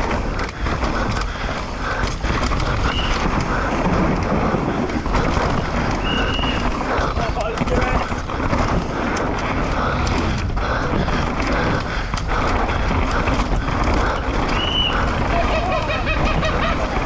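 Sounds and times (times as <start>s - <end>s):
bike tyres on dirt: 0.0s - 17.0s.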